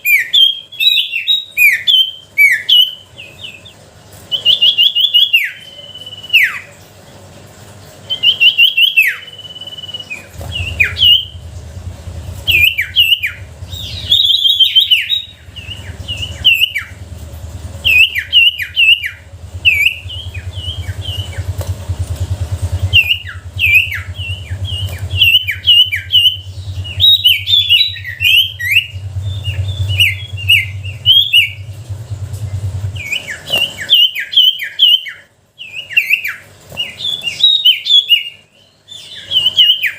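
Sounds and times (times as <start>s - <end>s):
songbird singing: 0.0s - 7.1s, 8.0s - 39.9s
steady low hum: 0.0s - 39.9s.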